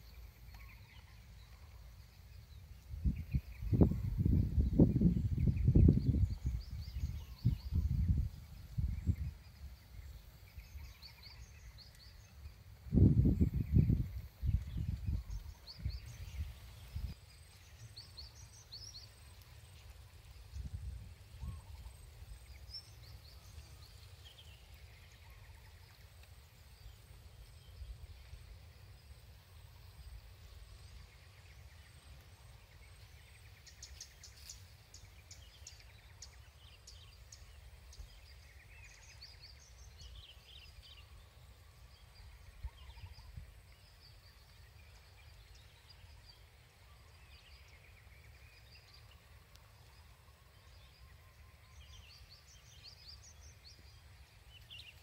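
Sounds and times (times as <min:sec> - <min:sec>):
birds chirping: 0:00.0 - 0:55.0
wind rumbling on microphone: 0:00.0 - 0:55.0.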